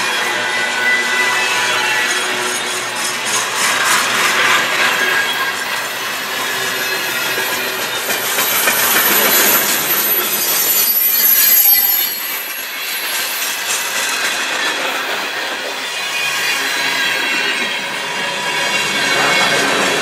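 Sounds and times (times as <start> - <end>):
high wheel squeal: 0.1 - 20.0
steel wheels clattering on rail: 2.0 - 20.0.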